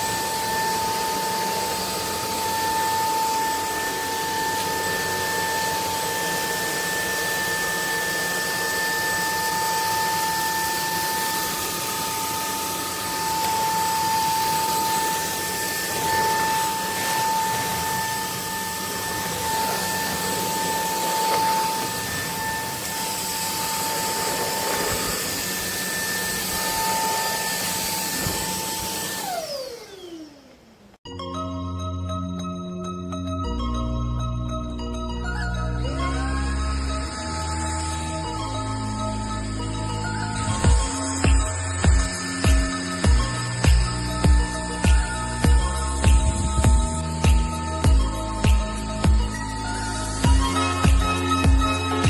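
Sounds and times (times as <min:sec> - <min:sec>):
stick vacuum running: 0:00.0 - 0:31.0, 0:36.9 - 0:52.0.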